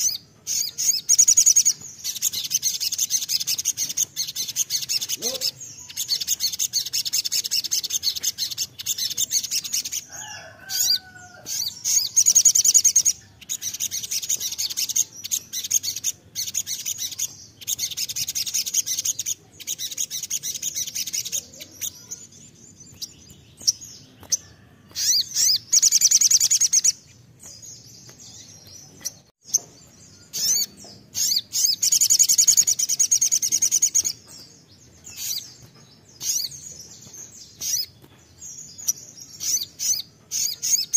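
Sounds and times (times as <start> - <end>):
sunbird twittering trills: 0.0 - 40.9.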